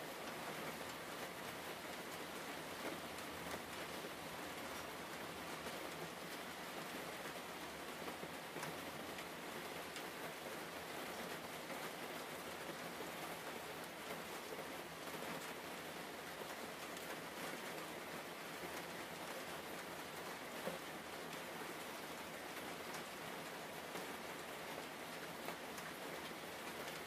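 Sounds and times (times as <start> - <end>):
rain-like hiss: 0.0 - 27.0.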